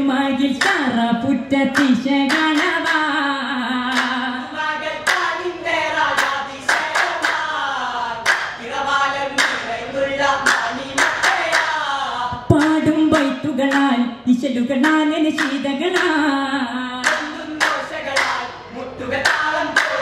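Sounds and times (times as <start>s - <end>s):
group singing: 0.0s - 20.0s
rhythmic hand claps: 0.5s - 1.0s, 1.7s - 3.2s, 3.8s - 9.8s, 10.4s - 14.0s, 14.8s - 20.0s.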